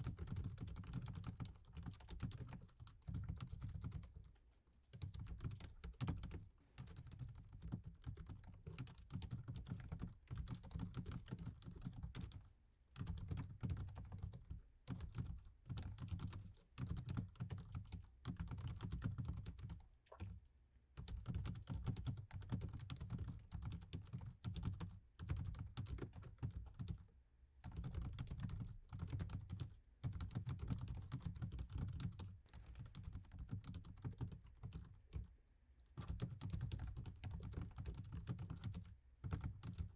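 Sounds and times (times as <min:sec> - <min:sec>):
laptop keyboard typing: 0:00.0 - 0:04.2, 0:04.9 - 0:12.4, 0:13.0 - 0:20.4, 0:21.0 - 0:27.0, 0:27.6 - 0:35.3, 0:36.0 - 0:39.9.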